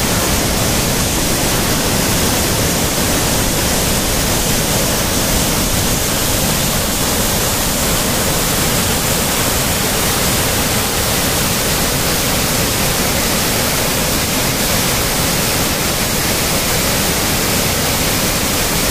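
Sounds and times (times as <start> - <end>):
waterfall rushing over rocks: 0.0 - 18.9.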